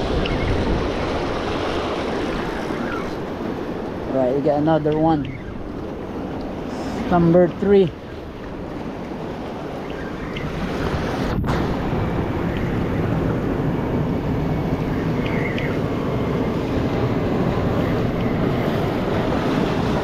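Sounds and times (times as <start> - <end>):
ocean waves washing over rocks: 0.0 - 20.0
wind on microphone: 0.0 - 20.0.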